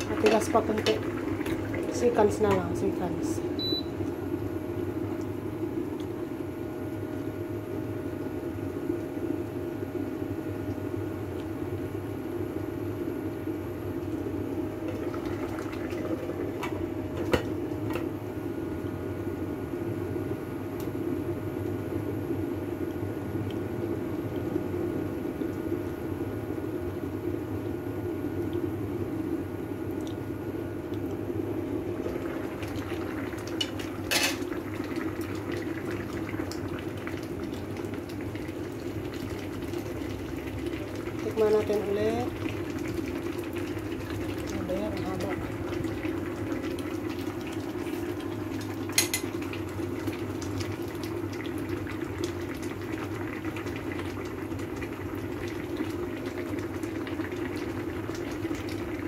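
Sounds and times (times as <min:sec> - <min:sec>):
faint steady hum: 0:00.0 - 0:59.0
water boiling in a pot: 0:00.0 - 0:59.0.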